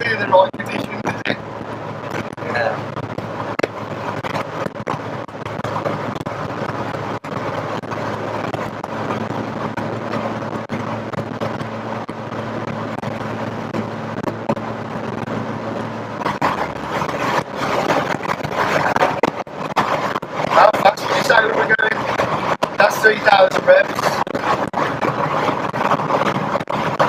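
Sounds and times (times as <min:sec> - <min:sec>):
car engine cruising: 0:00.0 - 0:27.0
tyre and road noise: 0:00.0 - 0:27.0.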